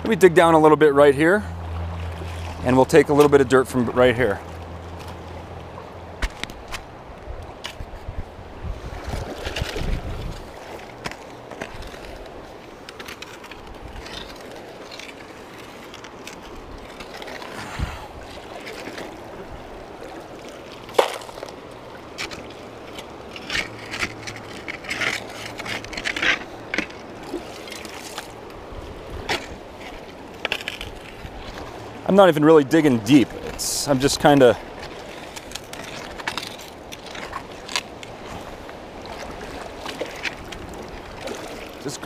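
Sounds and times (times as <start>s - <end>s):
creek rushing: 0.0s - 42.0s.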